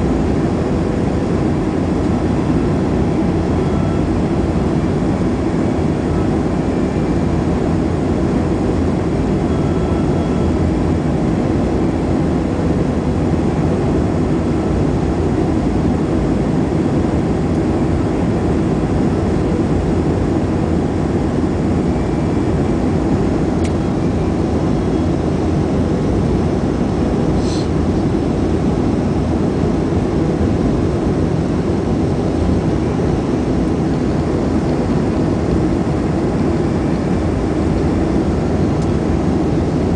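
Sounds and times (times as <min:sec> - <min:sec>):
airliner cabin engine roar: 0:00.0 - 0:39.9.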